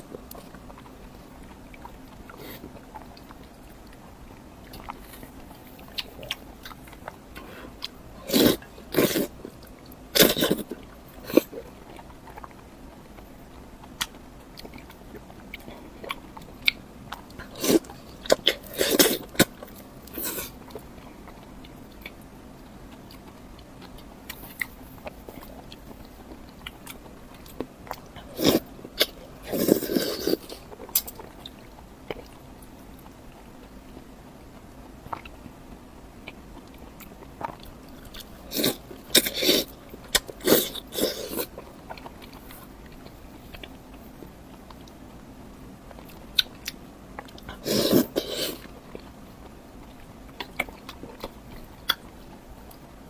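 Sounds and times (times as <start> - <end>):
crunchy chewing: 0.0 - 34.0, 34.6 - 53.0.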